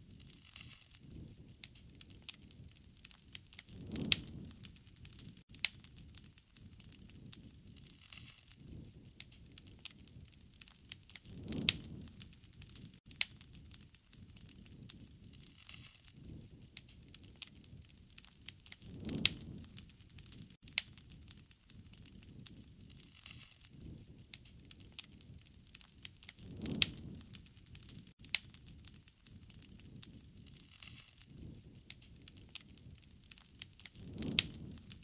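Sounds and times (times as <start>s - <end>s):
low rush of flame: 0.0s - 35.0s
wood fire crackling: 0.0s - 35.0s
pops and snaps of burning wood: 0.1s - 35.0s.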